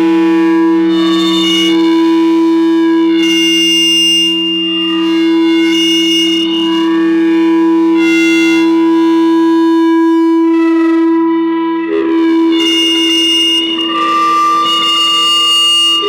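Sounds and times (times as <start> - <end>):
mixer feedback drone: 0.0 - 16.0.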